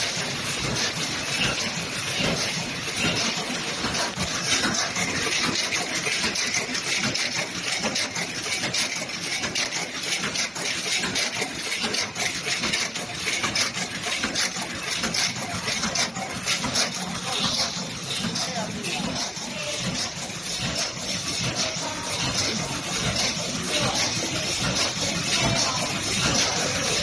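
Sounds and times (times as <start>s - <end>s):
machine rapid mechanical clatter: 0.0s - 27.0s.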